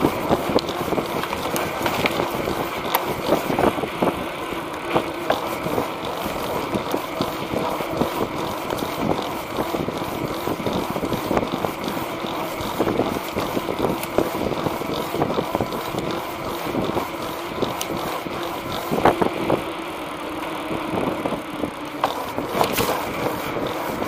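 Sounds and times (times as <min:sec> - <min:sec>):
small clicks and bumps: 0:00.0 - 0:19.6, 0:21.2 - 0:24.0.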